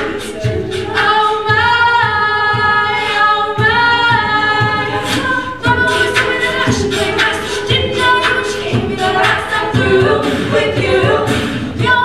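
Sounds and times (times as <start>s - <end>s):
a cappella ensemble singing: 0.0s - 12.0s
low pulsing beat: 0.0s - 12.0s.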